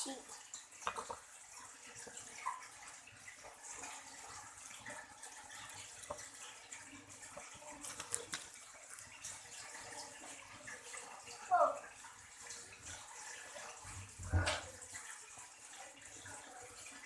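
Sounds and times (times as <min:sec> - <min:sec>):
water running from tap: 0:00.0 - 0:17.0.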